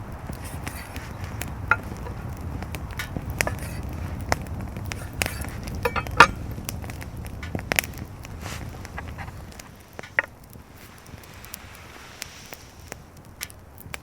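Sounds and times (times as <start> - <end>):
low steady rumble: 0.0 - 14.0
wood fire crackling and popping: 0.0 - 14.0.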